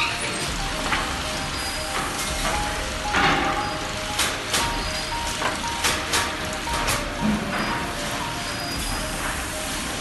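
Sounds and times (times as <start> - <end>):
industrial machine noise: 0.0 - 10.0.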